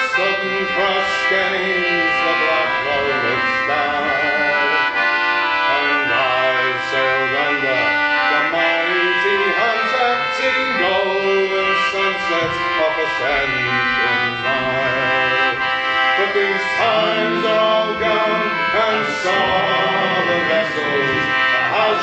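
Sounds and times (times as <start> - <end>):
group singing folk song: 0.0 - 22.0
squeezebox chords: 0.0 - 22.0.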